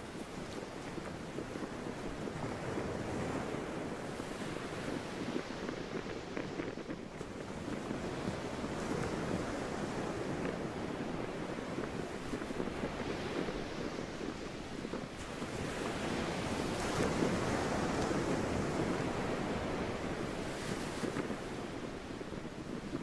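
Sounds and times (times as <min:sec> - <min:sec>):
sea waves washing on shore: 0:00.0 - 0:23.0
wind: 0:00.0 - 0:23.0.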